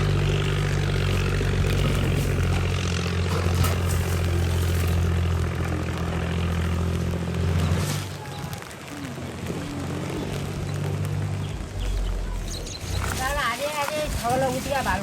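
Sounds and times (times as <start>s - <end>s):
engine running steadily: 0.0s - 13.4s.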